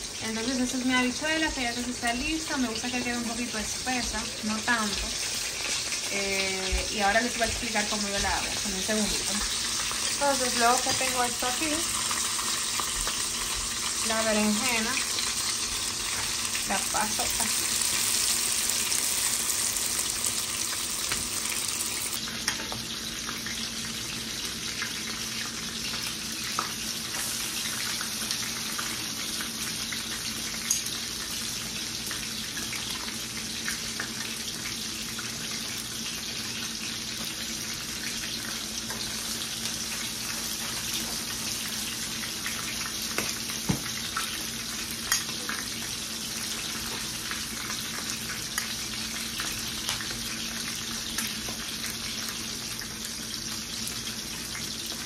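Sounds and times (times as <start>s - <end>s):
frying hiss in oil: 0.0s - 55.0s.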